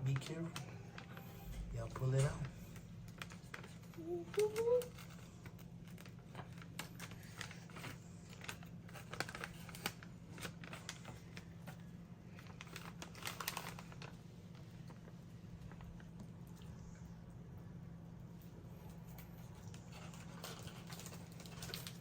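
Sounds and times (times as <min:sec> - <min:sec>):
plastic and foil pouches crinkling: 0:00.0 - 0:16.9, 0:18.4 - 0:22.0
steady low hum: 0:00.0 - 0:22.0.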